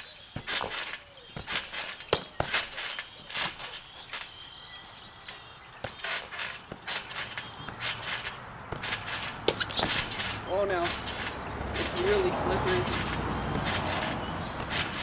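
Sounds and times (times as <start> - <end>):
scooter thumping on trampoline: 0.3 - 4.4, 5.3 - 15.0.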